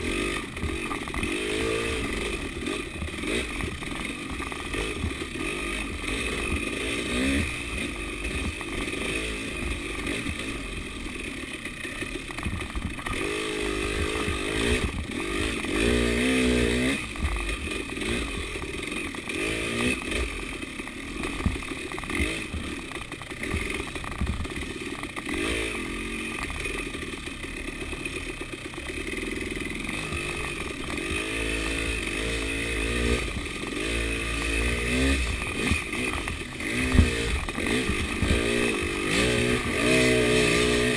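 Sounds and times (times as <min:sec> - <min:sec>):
bike rattling: 0:00.0 - 0:40.9
motorcycle engine revving: 0:00.0 - 0:40.9.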